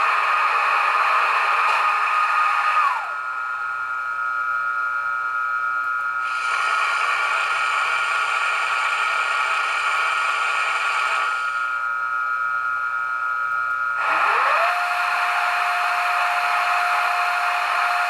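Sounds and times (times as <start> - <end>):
electric locomotive hum: 0.0 - 18.0.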